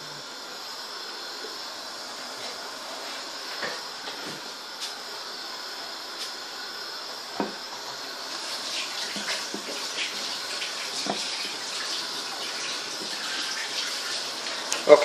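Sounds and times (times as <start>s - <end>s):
syrup boiling in a pot: 0.6s - 14.9s.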